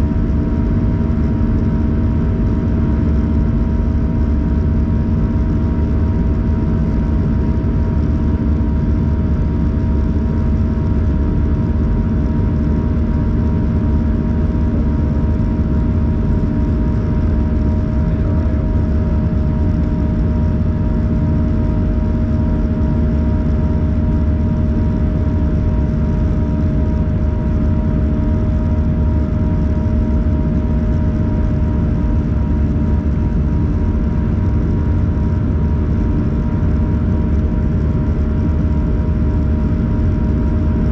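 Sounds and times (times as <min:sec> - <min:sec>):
airliner cabin roar: 0:00.0 - 0:40.9
constant hum tones: 0:00.0 - 0:40.9.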